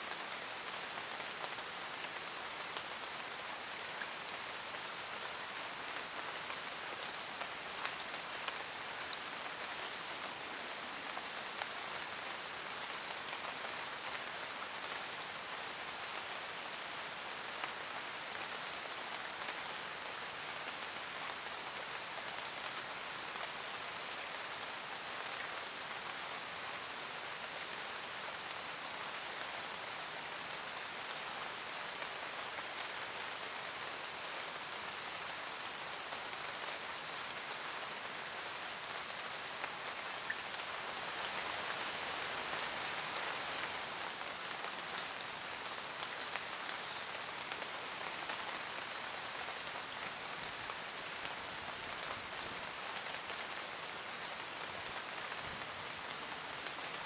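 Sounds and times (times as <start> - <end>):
rain hissing in a forest: 0.0 - 57.0.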